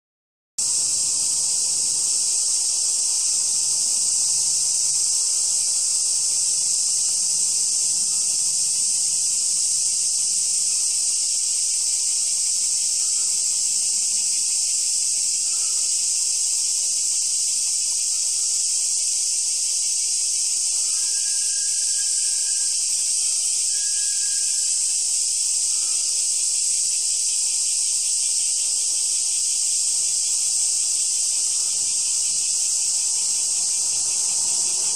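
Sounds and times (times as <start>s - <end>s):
cicada chorus: 0.6s - 34.9s.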